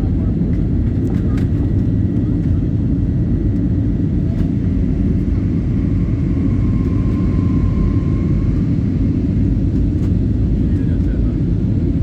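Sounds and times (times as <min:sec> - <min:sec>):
airliner engines and airflow rumble: 0:00.0 - 0:12.0.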